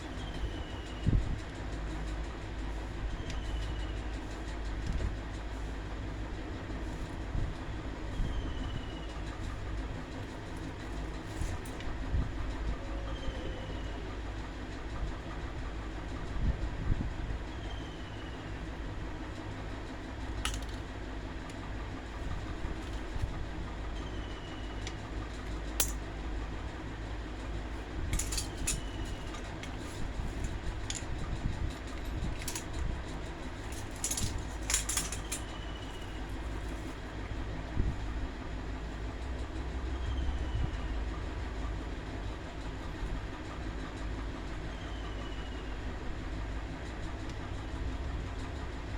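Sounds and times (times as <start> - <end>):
electric fan humming: 0.0 - 48.9.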